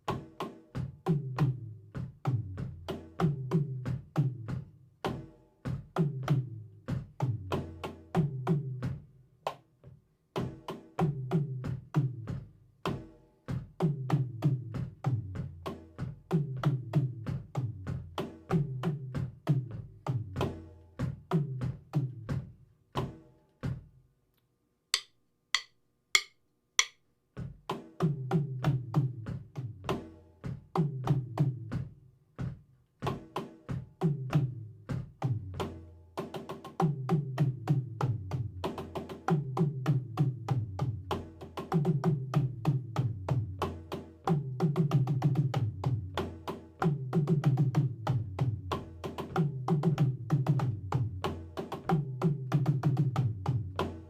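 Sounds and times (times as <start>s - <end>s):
drum kit groove: 0.0s - 23.9s, 25.0s - 54.0s.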